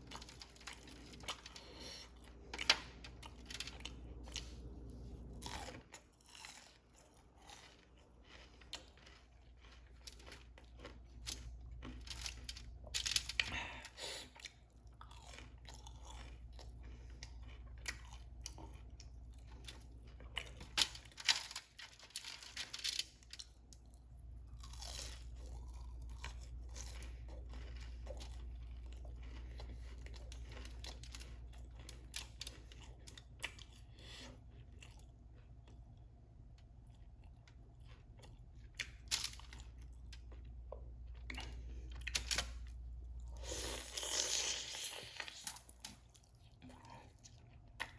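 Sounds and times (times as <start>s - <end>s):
person crunching chicken wings: 0.0s - 47.9s.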